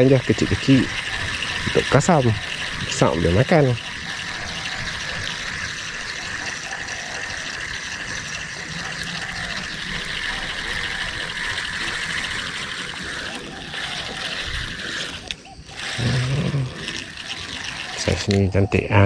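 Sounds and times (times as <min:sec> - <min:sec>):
fishing reel whirring: 0:00.0 - 0:19.0.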